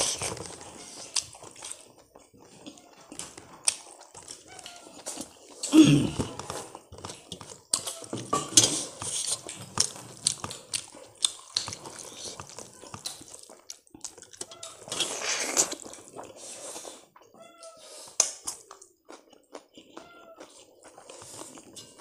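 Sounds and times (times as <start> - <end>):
chewing and mouth noises: 0.0 - 22.0.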